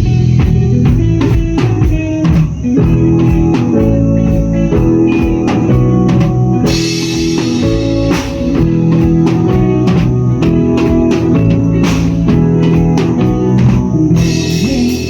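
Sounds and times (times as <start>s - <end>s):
band playing: 0.0s - 15.0s.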